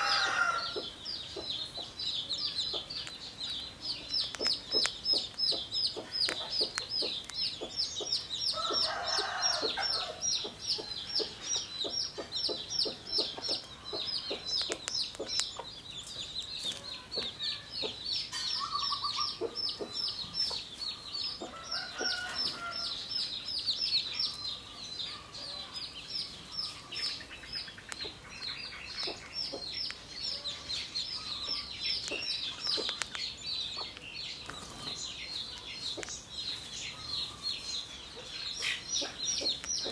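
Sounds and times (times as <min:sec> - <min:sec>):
high chirping calls: 0:00.0 - 0:39.9.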